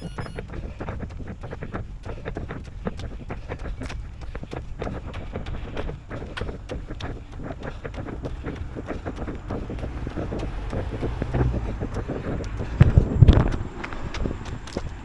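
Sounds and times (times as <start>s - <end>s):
runner's footsteps: 0.0s - 15.0s
wind rumbling on microphone: 0.0s - 15.0s.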